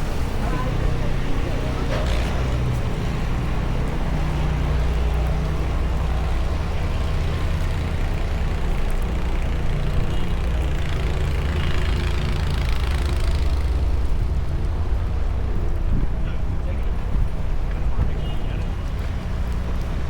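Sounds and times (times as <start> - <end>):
large vehicle engine running: 0.0 - 20.0
street noise: 0.0 - 20.0.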